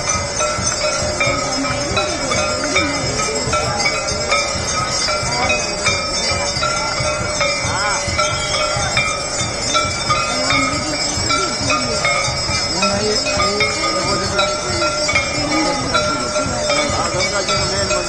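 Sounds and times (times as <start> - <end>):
bells clanging: 0.0 - 18.0
hubbub of large crowd: 0.0 - 18.0.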